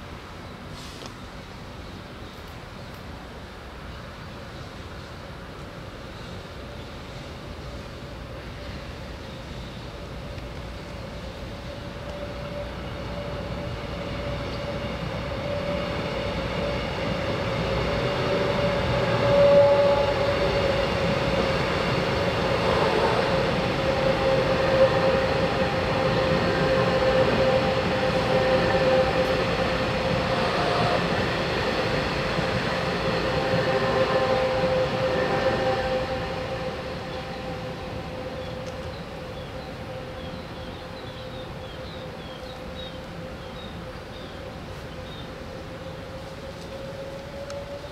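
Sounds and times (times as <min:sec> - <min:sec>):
train wheels rumbling: 0:00.0 - 0:47.9
steady train tone: 0:03.3 - 0:47.9.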